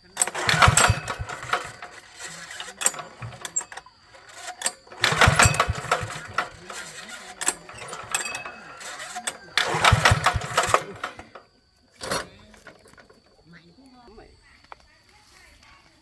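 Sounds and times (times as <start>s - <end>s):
diesel engine chugging knocks: 0.0s - 13.2s
metallic clanking: 0.0s - 13.3s.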